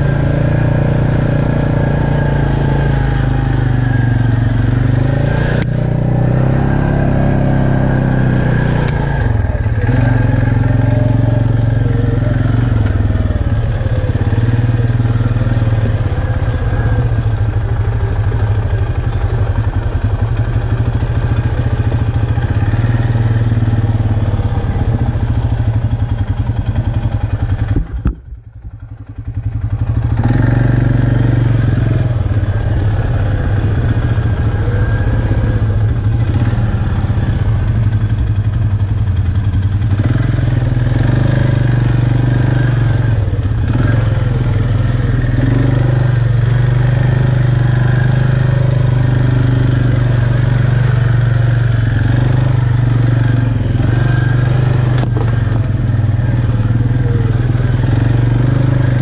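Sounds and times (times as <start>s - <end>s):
atv engine running at low revs: 0.0s - 59.0s.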